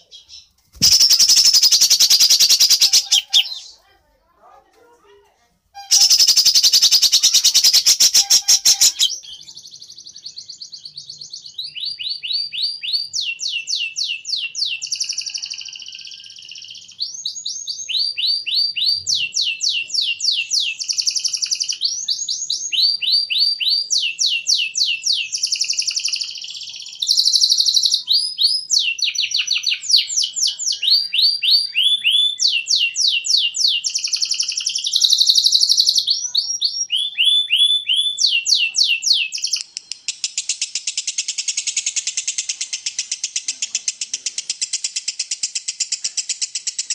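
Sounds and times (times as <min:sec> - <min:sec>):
songbird singing: 0:00.0 - 0:03.8, 0:05.8 - 0:46.9.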